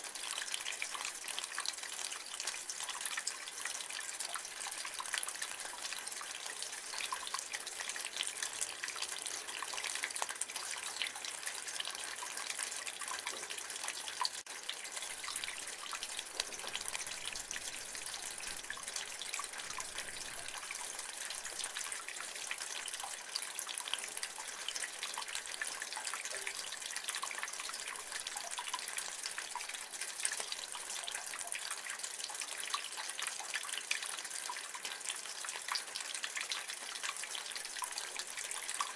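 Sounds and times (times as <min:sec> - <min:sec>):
rain water running from gutter: 0:00.0 - 0:38.9
water dripping: 0:00.0 - 0:38.9.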